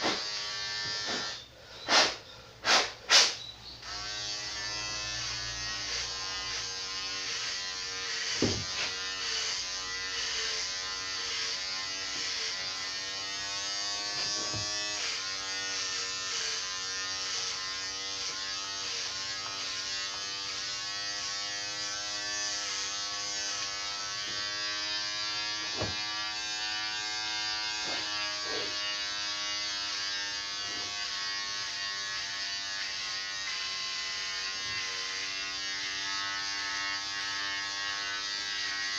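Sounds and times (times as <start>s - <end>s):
electric hair clippers buzzing: 0.0s - 38.9s.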